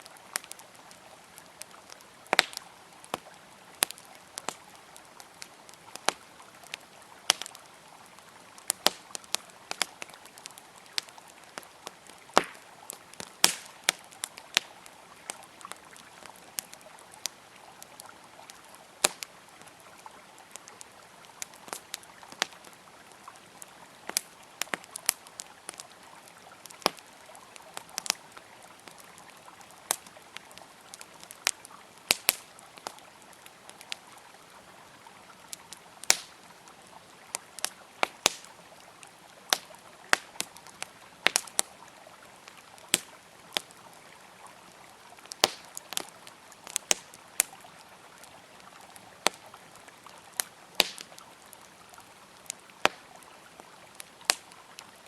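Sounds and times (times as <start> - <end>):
campfire crackling and popping: 0.0 - 55.0
river flowing: 0.0 - 55.0.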